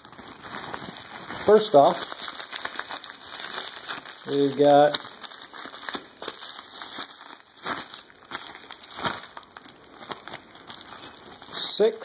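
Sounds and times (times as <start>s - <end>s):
packing wrap crinkling: 0.0s - 12.0s.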